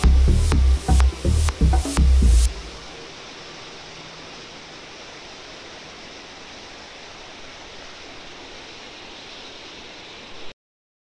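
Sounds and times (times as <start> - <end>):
mountain stream rushing: 0.0 - 10.5.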